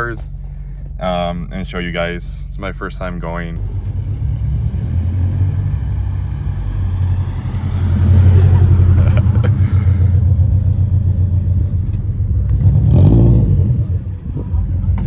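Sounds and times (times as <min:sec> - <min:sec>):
car engine droning while driving: 0:00.0 - 0:15.0.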